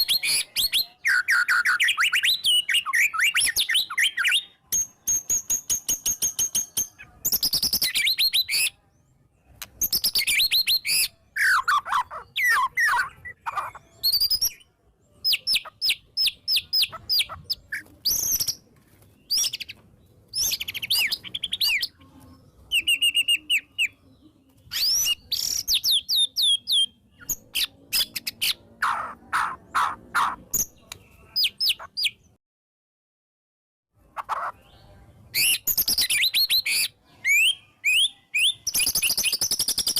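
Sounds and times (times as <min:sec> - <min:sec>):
bird singing varied song: 0:00.0 - 0:32.4, 0:34.0 - 0:39.9.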